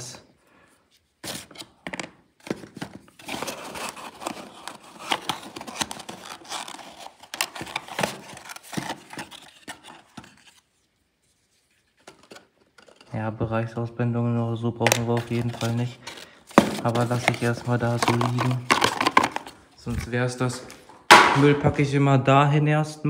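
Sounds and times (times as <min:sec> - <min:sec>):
cardboard boxes rustling and scraping: 0:00.9 - 0:13.1, 0:14.9 - 0:21.4.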